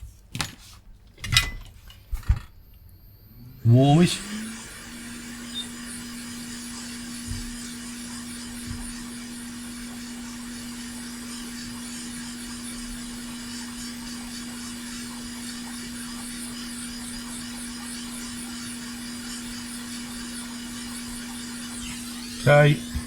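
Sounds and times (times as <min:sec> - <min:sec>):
hot air station blowing: 0:03.2 - 0:23.0.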